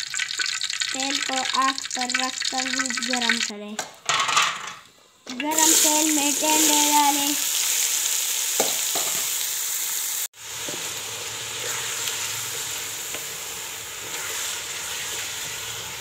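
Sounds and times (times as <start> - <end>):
vegetables sizzling in hot oil: 0.0 - 3.5, 5.4 - 16.0.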